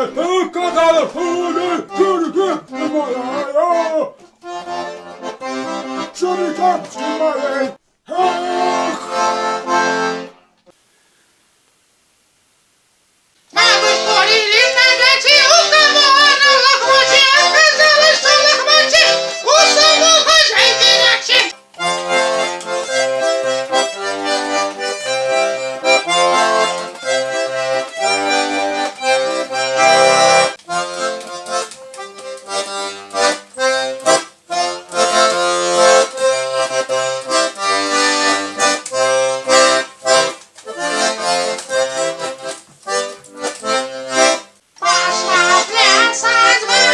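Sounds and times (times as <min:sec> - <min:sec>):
button accordion playing folk tune: 0:00.0 - 0:10.5, 0:13.6 - 0:46.9.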